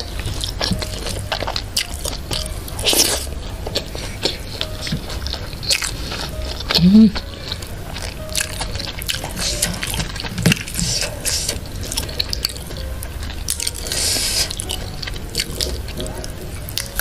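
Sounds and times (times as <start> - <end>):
fingers squeezing food: 0.0 - 17.0.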